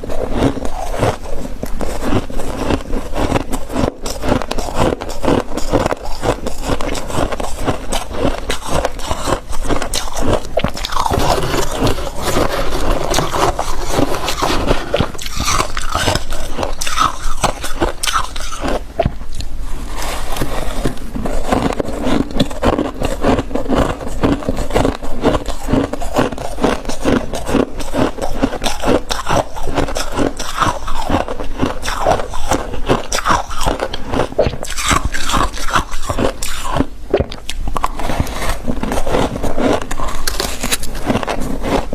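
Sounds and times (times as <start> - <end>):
freezer frost crunching: 0.0 - 41.9.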